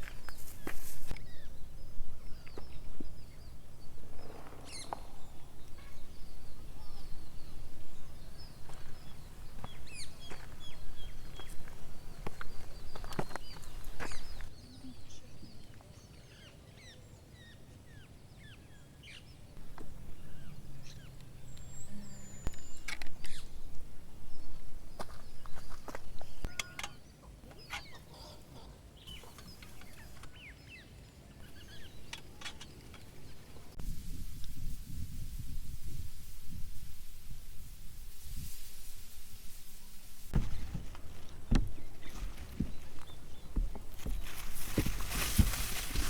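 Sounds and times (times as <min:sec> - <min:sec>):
birds chirping: 0:00.0 - 0:33.8, 0:40.3 - 0:46.0.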